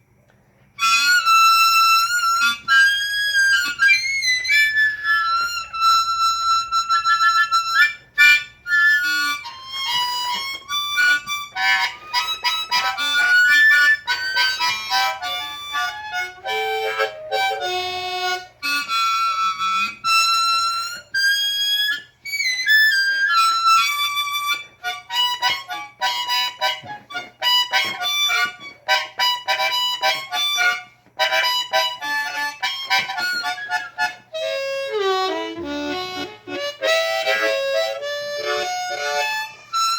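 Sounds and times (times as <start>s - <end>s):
harmonica playing blues: 0.7s - 39.9s.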